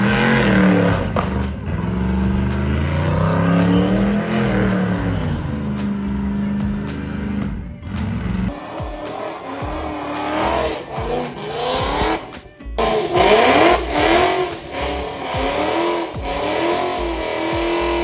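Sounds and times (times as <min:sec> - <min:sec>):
car engine revving hard: 0:00.0 - 0:18.0
tire squeal: 0:00.0 - 0:18.0.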